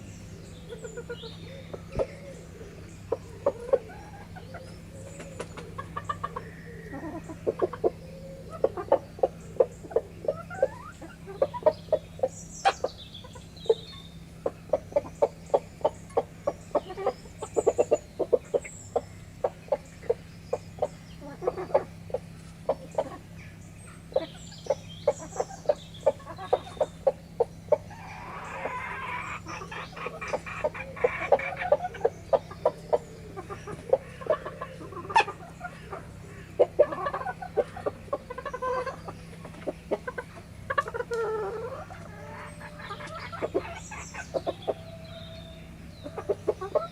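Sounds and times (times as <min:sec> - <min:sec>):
hen calling: 0:00.0 - 0:46.9
soft chicken clucks: 0:00.0 - 0:46.9.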